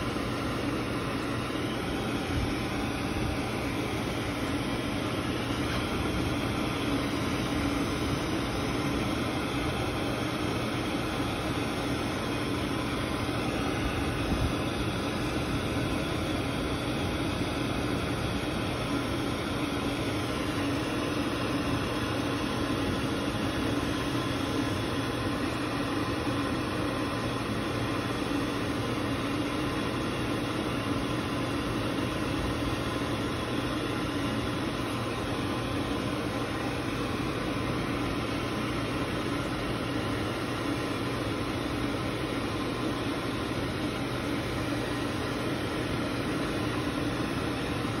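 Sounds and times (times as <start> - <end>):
blow dryer running: 0.0 - 48.0.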